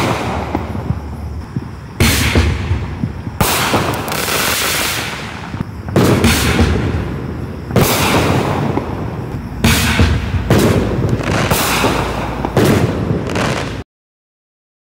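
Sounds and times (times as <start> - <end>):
firework shells banging: 0.0 - 13.8.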